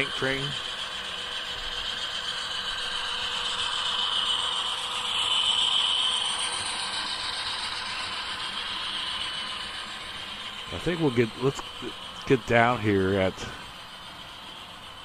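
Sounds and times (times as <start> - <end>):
model train whirring and rattling: 0.0 - 15.0.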